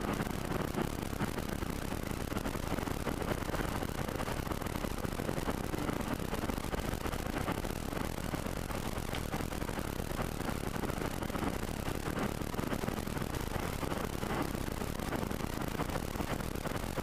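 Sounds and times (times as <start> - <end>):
tyres rumbling on asphalt: 0.0 - 17.0.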